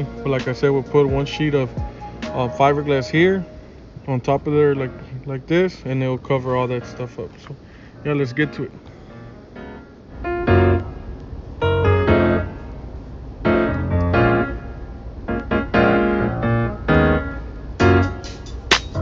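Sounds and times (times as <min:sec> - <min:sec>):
keyboard chords with low bass: 0:00.0 - 0:05.5, 0:08.0 - 0:19.0.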